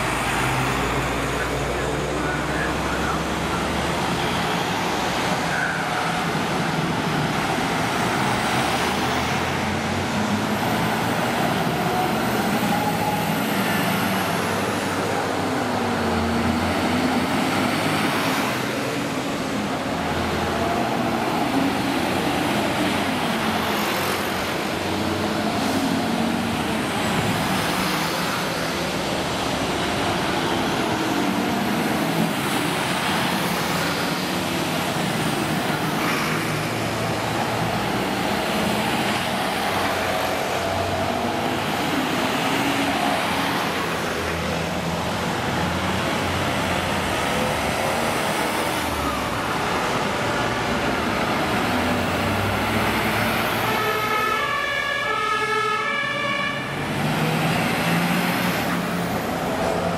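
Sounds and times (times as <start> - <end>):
diesel engines passing: 0.0 - 59.9.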